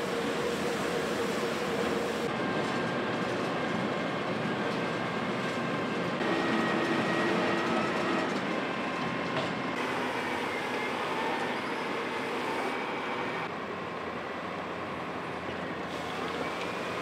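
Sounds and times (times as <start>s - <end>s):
milling machine grinding road: 0.0s - 17.0s.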